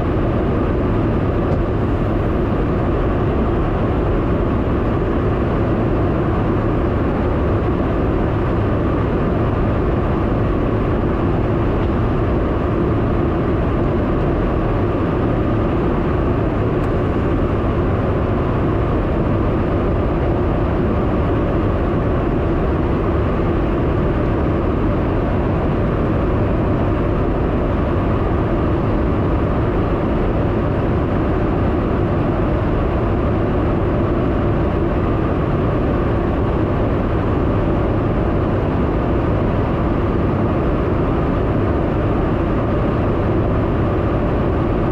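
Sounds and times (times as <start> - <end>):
aircraft engine drone: 0.0 - 44.9.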